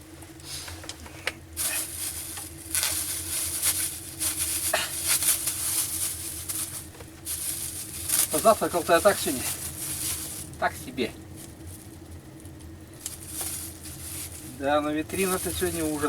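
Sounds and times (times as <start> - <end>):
crinkly rustling and scraping: 0.1 - 16.0.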